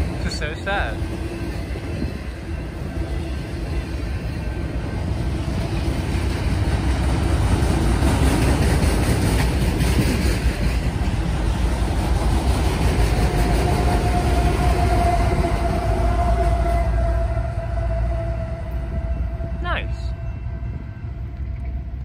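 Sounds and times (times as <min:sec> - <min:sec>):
diesel locomotive whine: 0:00.0 - 0:22.0
train wheels rumbling on rail: 0:00.0 - 0:22.0.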